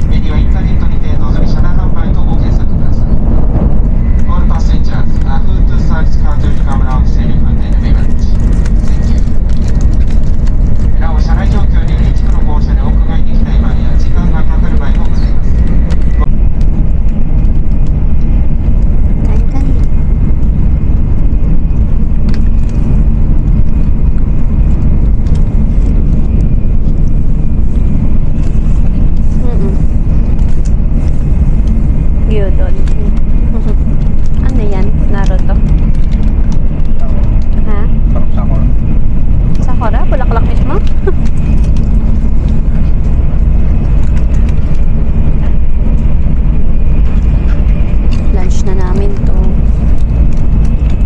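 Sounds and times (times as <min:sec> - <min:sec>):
train cabin rumble: 0:00.0 - 0:51.0.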